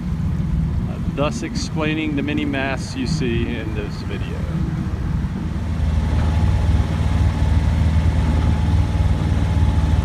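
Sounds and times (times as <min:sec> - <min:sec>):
boat engine throbbing: 0:00.0 - 0:10.0.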